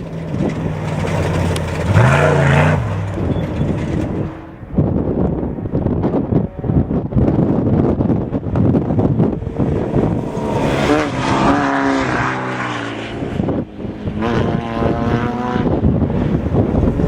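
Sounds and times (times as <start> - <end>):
race vehicle engine revving: 0.0 - 4.6, 5.9 - 17.0.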